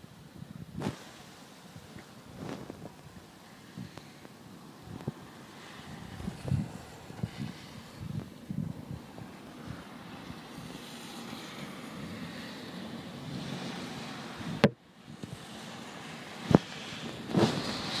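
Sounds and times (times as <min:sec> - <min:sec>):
rustle: 0:00.0 - 0:18.0
wind buffeting microphone: 0:00.0 - 0:18.0
heavy rain: 0:00.9 - 0:18.0.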